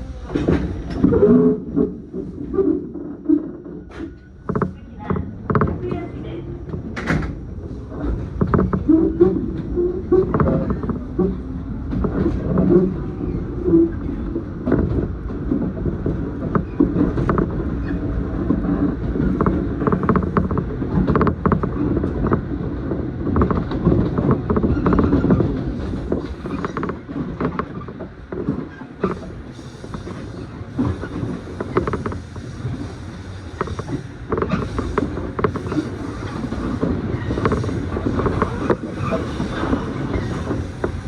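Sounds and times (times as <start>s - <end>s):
train running rumble: 0.0s - 41.0s
wheel and car body rattles: 0.3s - 41.0s.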